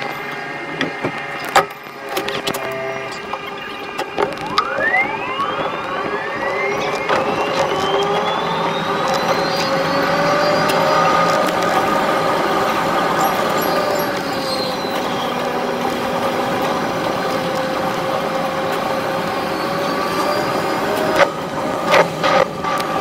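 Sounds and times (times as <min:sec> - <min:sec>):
electric train motor whine: 0:00.0 - 0:23.0.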